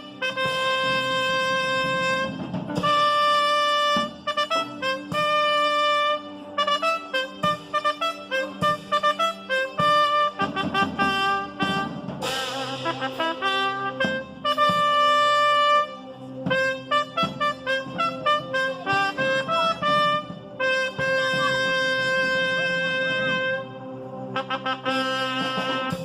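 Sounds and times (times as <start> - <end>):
trumpets playing a brass fanfare: 0.0 - 26.0.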